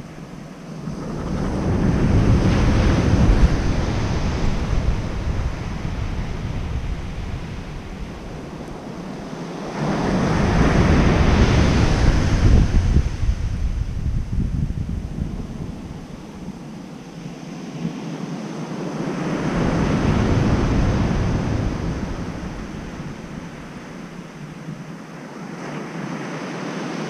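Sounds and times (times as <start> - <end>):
ocean waves breaking on beach: 0.0 - 27.0.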